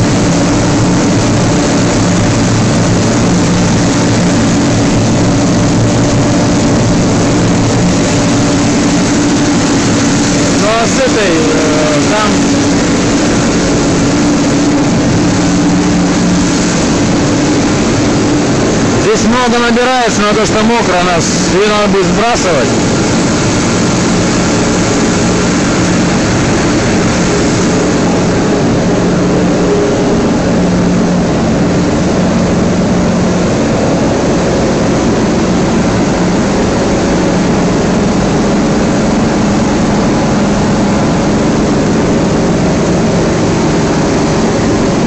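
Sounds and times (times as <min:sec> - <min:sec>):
plastic film crusher machine drone: 0:00.0 - 0:45.0.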